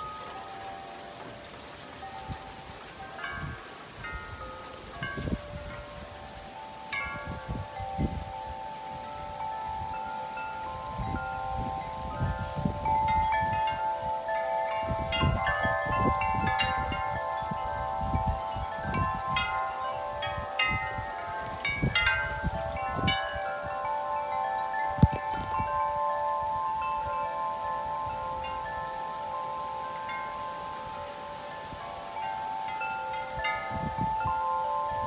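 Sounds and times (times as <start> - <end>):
metal wind chimes ringing: 0.0 - 35.0
wind rumbling on microphone: 0.0 - 35.0.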